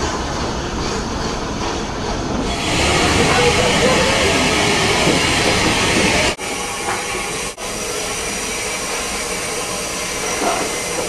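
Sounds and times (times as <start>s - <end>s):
steam locomotive hissing steam: 0.0s - 11.0s.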